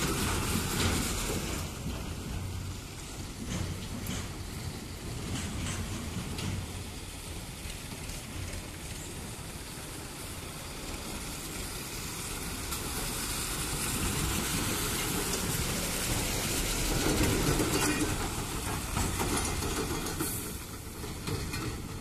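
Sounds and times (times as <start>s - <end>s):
tyres rolling through wet mud: 0.0s - 22.0s.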